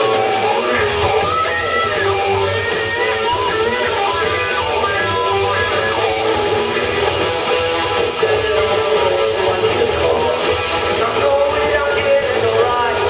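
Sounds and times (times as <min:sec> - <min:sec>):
bass guitar: 0:00.0 - 0:13.0
drums: 0:00.0 - 0:13.0
electric guitars: 0:00.0 - 0:13.0.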